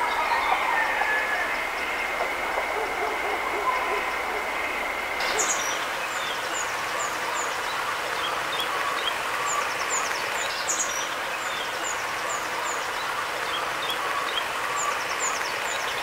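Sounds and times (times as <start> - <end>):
songbirds calling: 0.0 - 16.0
steady hiss: 0.0 - 16.0.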